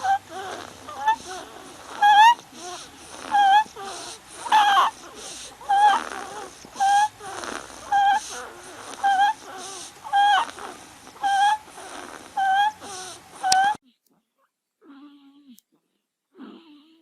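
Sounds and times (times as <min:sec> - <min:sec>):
baby breathing: 0:00.0 - 0:13.8
baby squeaking with each breath: 0:00.0 - 0:13.8.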